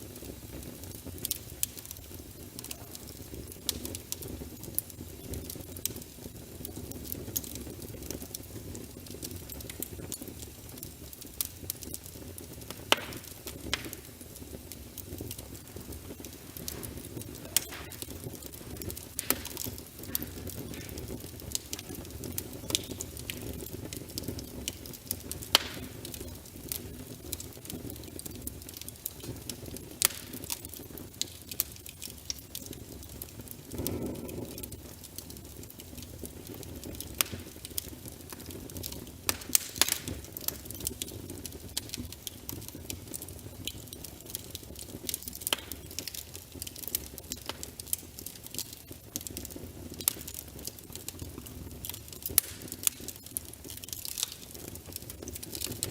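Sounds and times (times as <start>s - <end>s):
logs crackling and popping: 0.0s - 55.9s
low rumble of flame: 0.0s - 55.9s.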